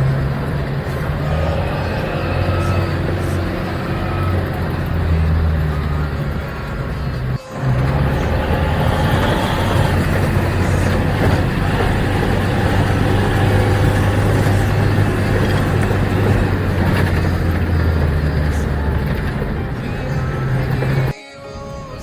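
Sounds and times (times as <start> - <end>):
vehicle engine droning: 0.0 - 21.1.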